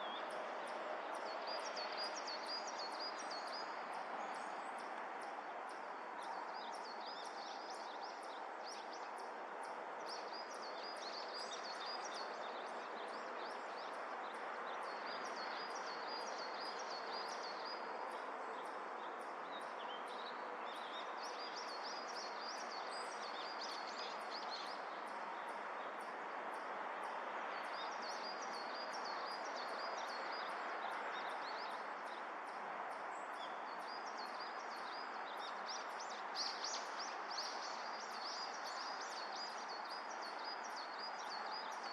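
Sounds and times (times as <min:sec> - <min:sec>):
steady outdoor hiss: 0:00.0 - 0:41.9.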